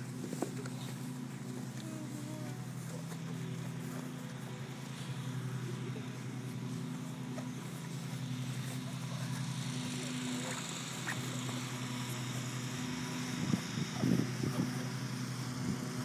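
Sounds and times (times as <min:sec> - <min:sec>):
small engine humming: 0:00.0 - 0:16.0.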